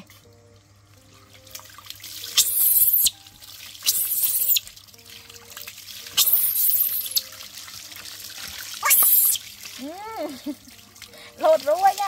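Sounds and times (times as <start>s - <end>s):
hose water splashing on concrete: 1.3s - 12.0s.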